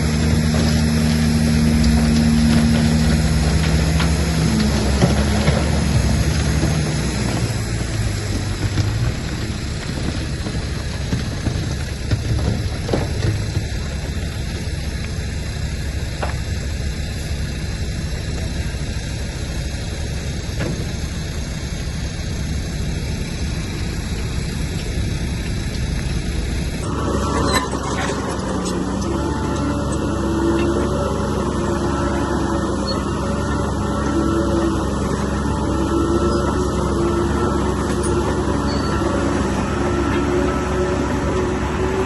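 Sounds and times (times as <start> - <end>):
bulldozer diesel engine running: 0.0 - 42.0
steady whining tones: 0.0 - 42.0.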